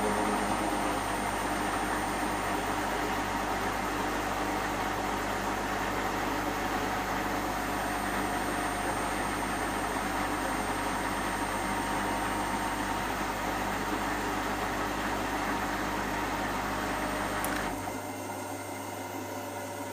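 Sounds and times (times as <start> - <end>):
washing machine spinning: 0.0 - 19.9.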